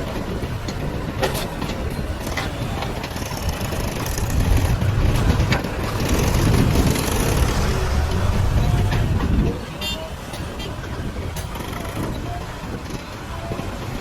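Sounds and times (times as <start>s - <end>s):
backhoe diesel engine digging: 0.0s - 14.0s.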